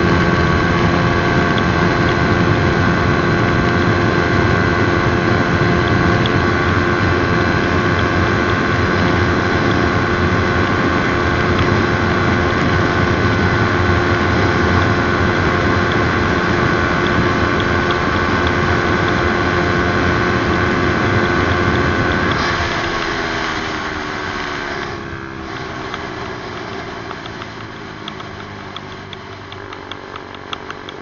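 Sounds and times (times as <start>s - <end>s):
heavy wind noise: 0.0s - 25.7s
motorcycle engine at high revs: 0.0s - 31.0s.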